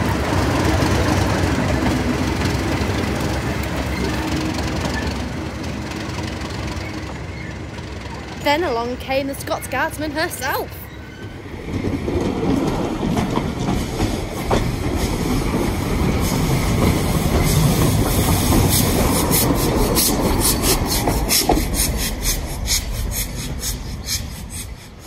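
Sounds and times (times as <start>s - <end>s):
steam train rumbling by: 0.0s - 25.0s
wheels clicking over rail joints: 0.0s - 25.0s.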